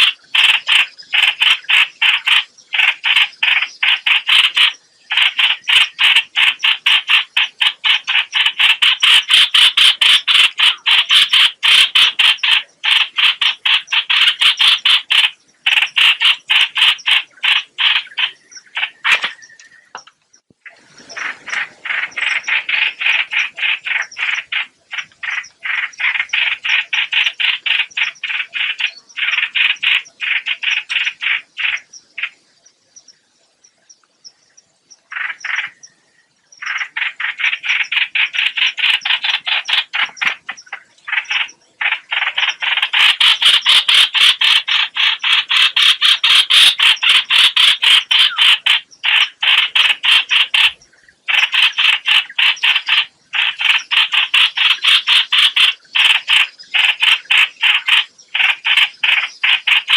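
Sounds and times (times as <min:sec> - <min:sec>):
bird rasping chatter: 0:00.0 - 0:20.1, 0:21.0 - 0:32.4, 0:35.1 - 0:35.9, 0:36.6 - 0:59.9.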